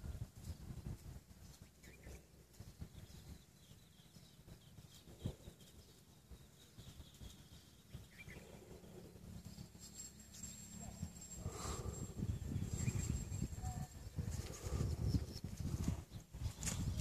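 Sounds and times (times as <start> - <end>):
faint bird chirps: 0.1 - 17.0.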